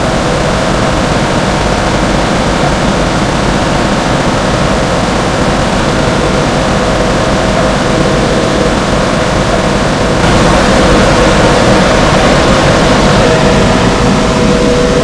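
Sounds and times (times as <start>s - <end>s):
blower fan rushing air: 0.0s - 15.0s.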